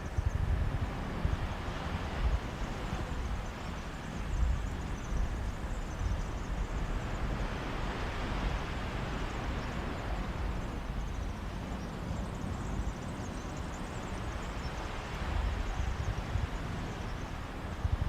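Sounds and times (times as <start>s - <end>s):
wind gusting against microphone: 0.0s - 18.0s
sea waves washing on beach: 0.6s - 18.0s.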